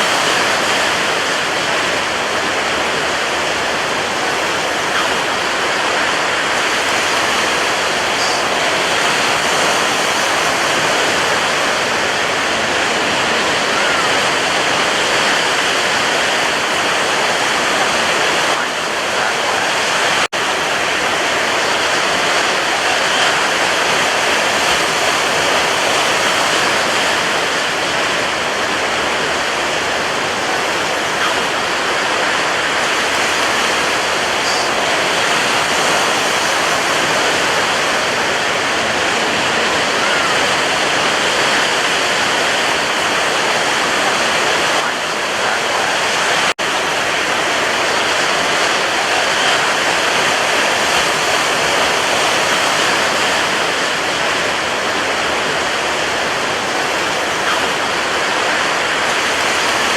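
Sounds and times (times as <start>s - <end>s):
waves breaking: 0.0s - 59.9s.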